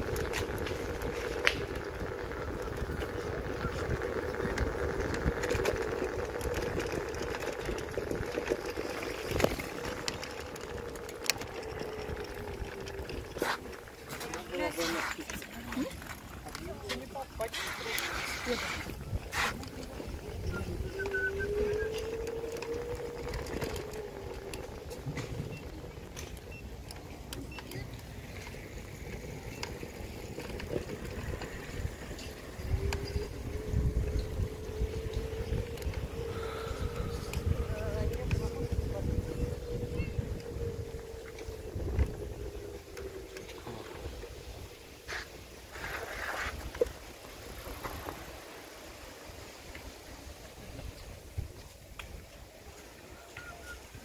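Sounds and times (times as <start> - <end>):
electric scooter motor whine: 0.0 - 54.0
wheels rumbling on brick paving: 0.0 - 54.0
wind buffeting microphone: 0.0 - 54.0.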